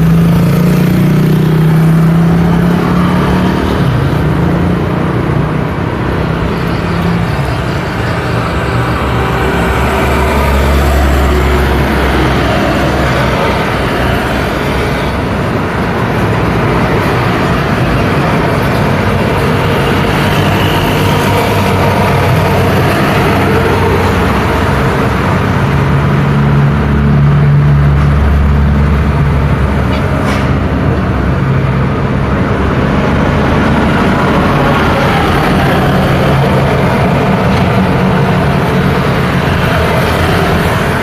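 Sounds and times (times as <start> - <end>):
heavy vehicle engine: 0.0 - 41.0
road traffic passing: 0.0 - 41.0.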